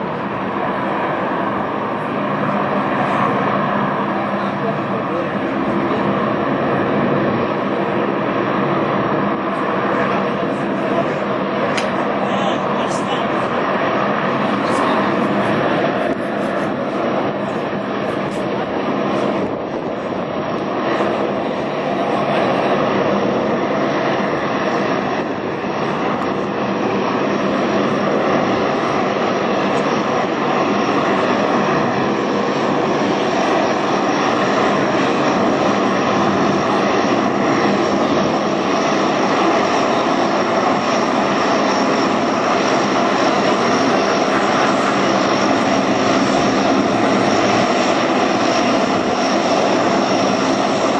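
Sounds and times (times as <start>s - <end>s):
high engine whine: 0.0s - 50.9s
propeller engine drone: 0.0s - 50.9s.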